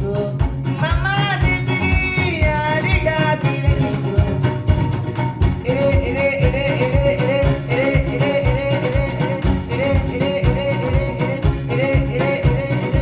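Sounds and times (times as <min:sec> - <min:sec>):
acoustic band playing: 0:00.0 - 0:13.0
person singing: 0:00.0 - 0:13.0
steady low drum beat: 0:00.0 - 0:13.0.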